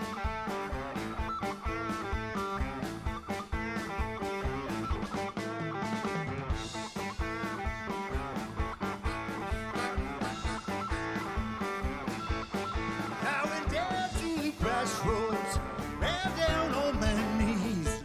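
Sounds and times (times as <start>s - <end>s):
live blues band playing: 0.0s - 18.0s.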